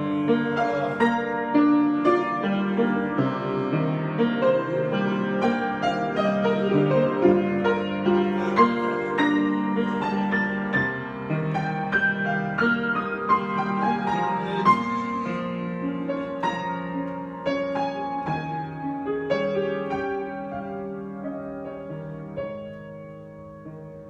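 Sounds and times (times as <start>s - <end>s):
solo piano improvisation: 0.0s - 24.0s.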